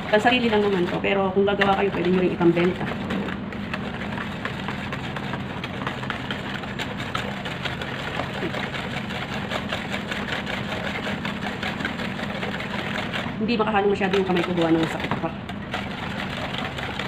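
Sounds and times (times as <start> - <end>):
steady low hum: 0.0 - 17.0
whisk clattering against bowl: 0.0 - 17.0.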